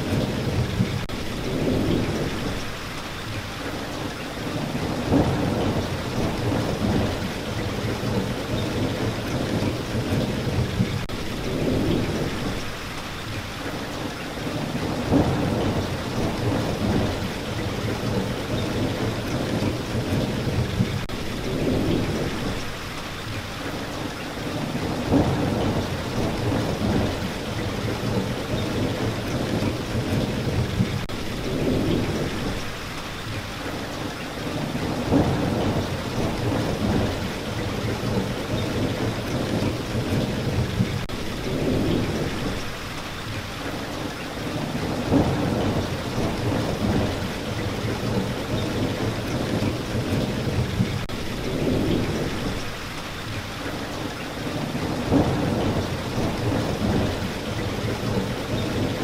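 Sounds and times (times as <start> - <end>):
low rolling thunder: 0.0 - 2.8, 4.4 - 12.8, 14.4 - 22.8, 24.4 - 32.8, 34.4 - 42.8, 44.4 - 52.8, 54.4 - 59.0
steady rain: 0.0 - 59.0.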